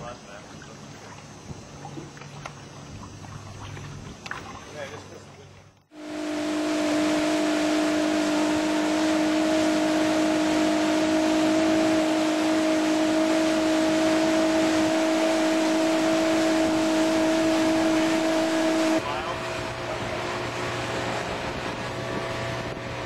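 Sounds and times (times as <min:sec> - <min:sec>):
motorboat engine hum: 0:00.0 - 0:23.0
wind and water rushing: 0:00.0 - 0:23.0.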